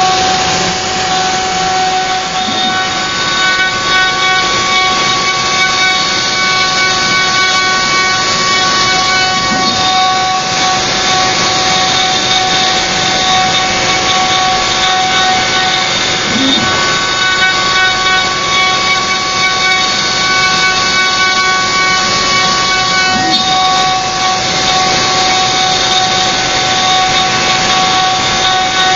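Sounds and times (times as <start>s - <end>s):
router motor whine: 0.0s - 28.9s
bit rasping into wood: 0.9s - 28.9s.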